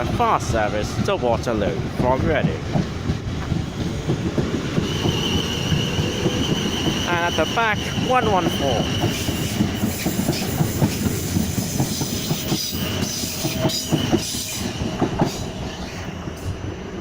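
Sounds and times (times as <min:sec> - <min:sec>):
train wheels clattering over rail joints: 0:00.0 - 0:16.6.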